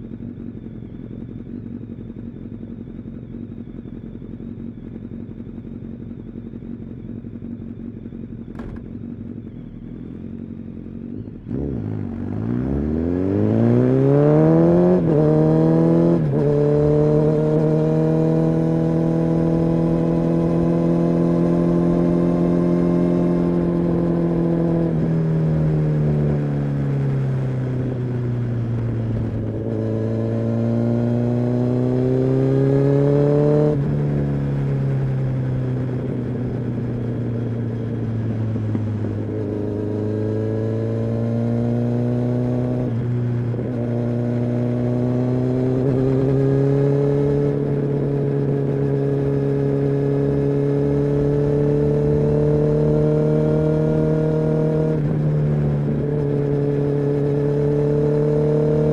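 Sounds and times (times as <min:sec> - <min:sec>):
sport bike engine and exhaust: 0:00.0 - 0:58.9.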